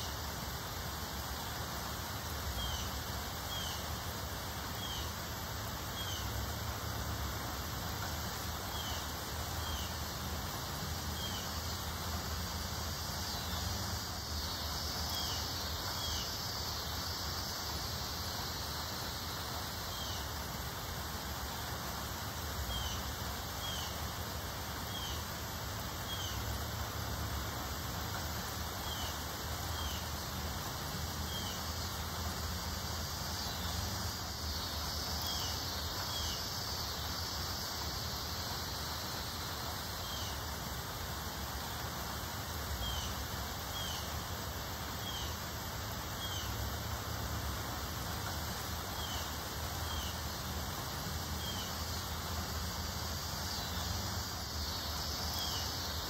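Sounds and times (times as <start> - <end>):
wind rustling leafy trees: 0.0 - 56.0.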